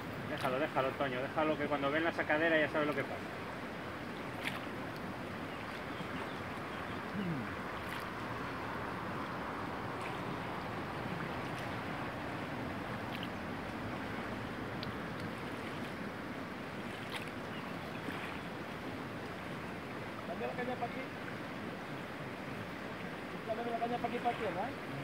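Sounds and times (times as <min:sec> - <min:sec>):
river rushing over riffle: 0:00.0 - 0:25.0.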